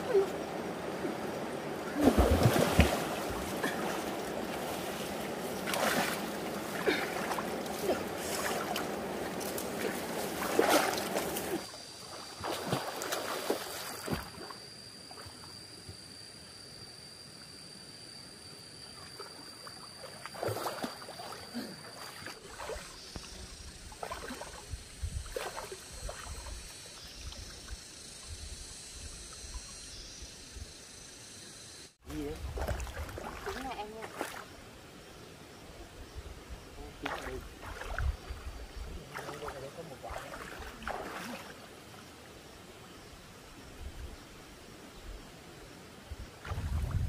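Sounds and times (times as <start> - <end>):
stream water splashing: 0.0 - 15.4, 19.0 - 28.4, 32.0 - 35.9, 36.8 - 47.0.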